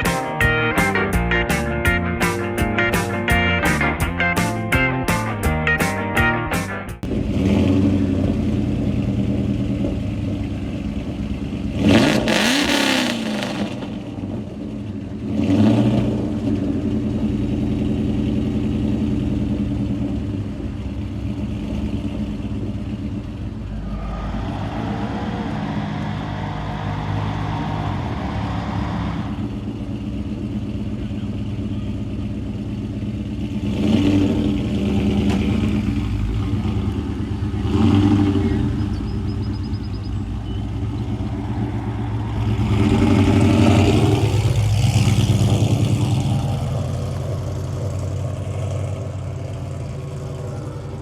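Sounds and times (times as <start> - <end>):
car engine revving: 7.0 - 51.0.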